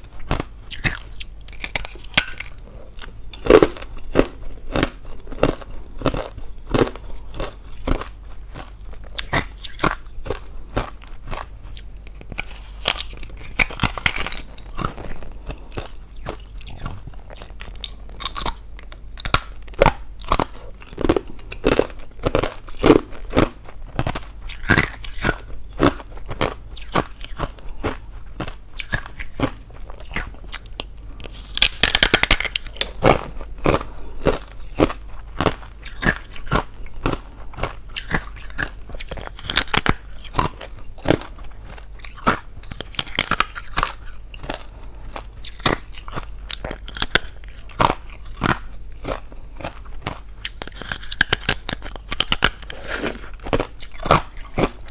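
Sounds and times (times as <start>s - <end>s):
person chewing crunchy ice: 0.1s - 54.9s.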